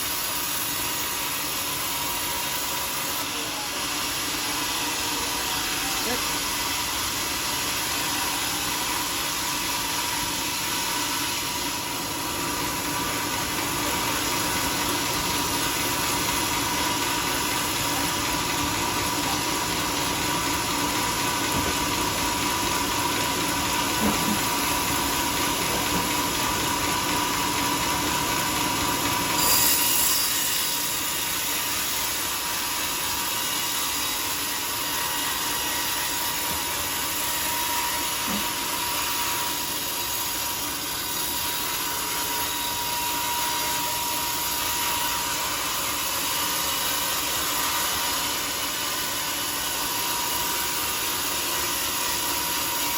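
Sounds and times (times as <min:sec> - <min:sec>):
sawmill machinery whining: 0:00.0 - 0:52.9.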